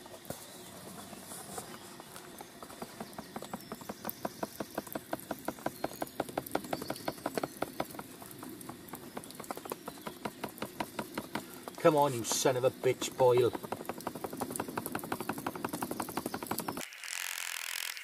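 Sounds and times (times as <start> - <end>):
foam mat flapping: 0.0 - 16.9.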